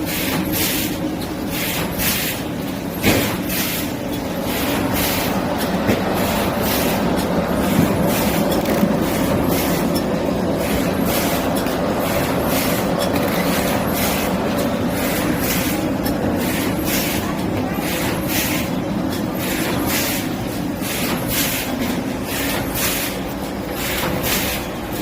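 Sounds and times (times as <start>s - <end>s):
shrink-wrapping machine running: 0.0s - 25.0s.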